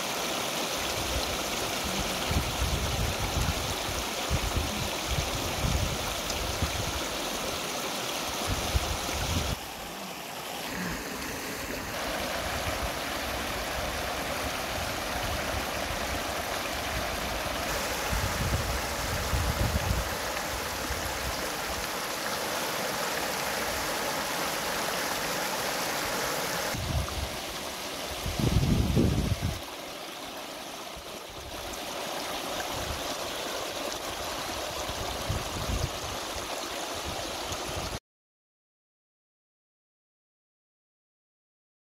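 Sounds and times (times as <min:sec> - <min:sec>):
river rushing over rocks: 0:00.0 - 0:37.9.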